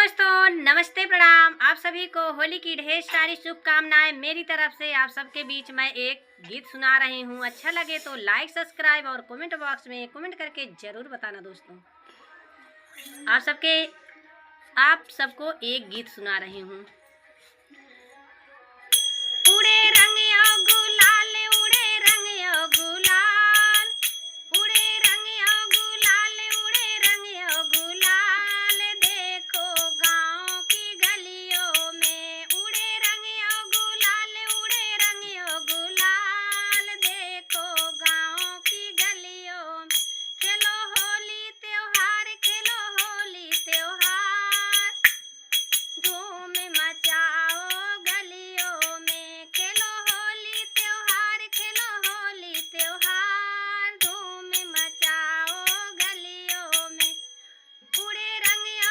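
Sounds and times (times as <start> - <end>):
woman singing: 0.0 - 45.2, 46.0 - 57.3, 57.9 - 58.9.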